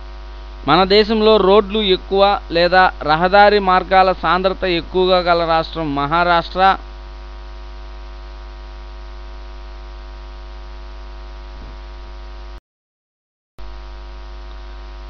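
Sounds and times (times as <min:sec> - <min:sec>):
electrical mains hum: 0:00.0 - 0:12.6, 0:13.6 - 0:15.0.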